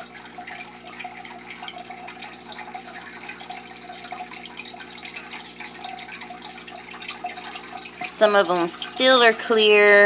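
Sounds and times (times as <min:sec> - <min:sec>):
aquarium water bubbling: 0:00.0 - 0:10.0.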